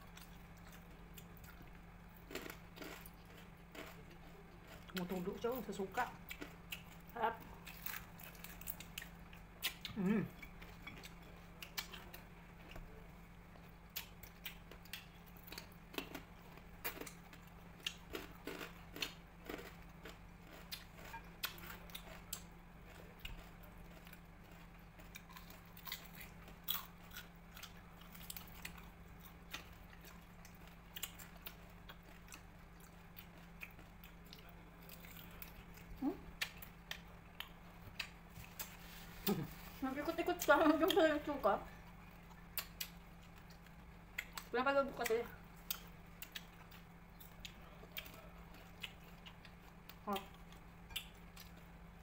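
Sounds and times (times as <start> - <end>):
people chewing crunchy cracklings: 0.0 - 52.0
steady low hum: 0.0 - 52.0.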